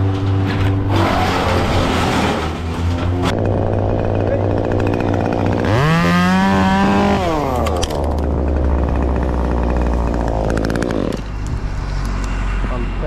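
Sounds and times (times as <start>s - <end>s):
chainsaw revving: 0.9s - 11.4s.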